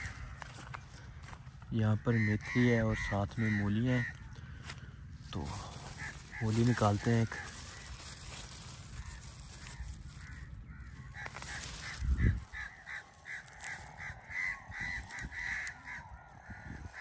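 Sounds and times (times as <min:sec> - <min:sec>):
bird calling: 0:00.0 - 0:17.0.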